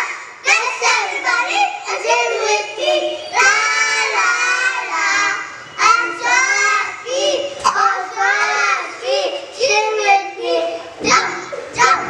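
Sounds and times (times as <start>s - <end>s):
children singing into a microphone: 0.0s - 12.0s.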